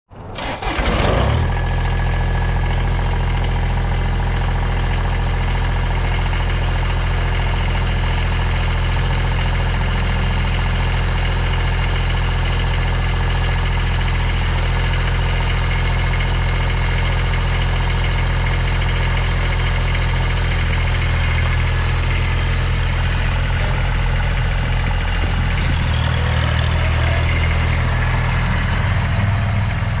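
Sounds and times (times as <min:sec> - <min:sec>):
tractor diesel engine idling: 0:00.4 - 0:30.0.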